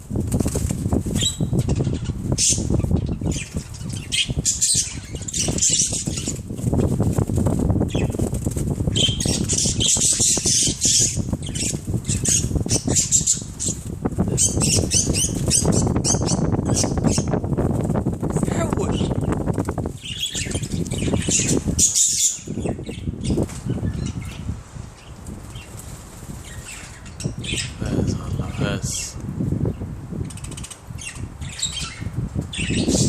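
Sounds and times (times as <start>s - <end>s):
wing flapping and scuffling: 0.0s - 31.4s
birds squawking and chirping: 0.3s - 33.0s.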